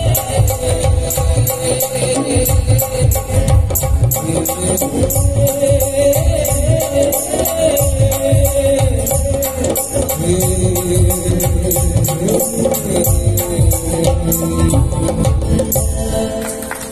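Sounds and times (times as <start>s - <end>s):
fast rattling percussion: 0.0s - 16.8s
keyboards playing melody: 0.0s - 16.9s
tabla: 0.0s - 16.9s.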